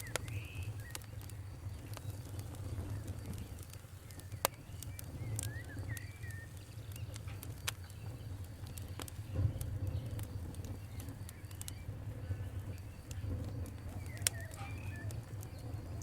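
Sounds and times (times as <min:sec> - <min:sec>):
bird chirping: 0:00.0 - 0:16.0
campfire crackling: 0:00.0 - 0:16.0.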